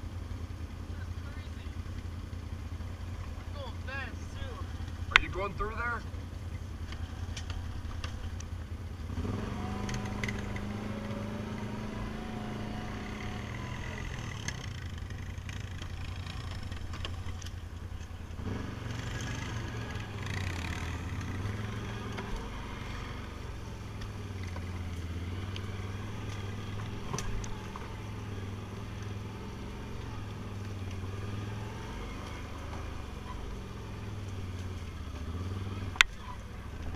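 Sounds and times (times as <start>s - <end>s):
atv engine running: 0.0s - 36.9s.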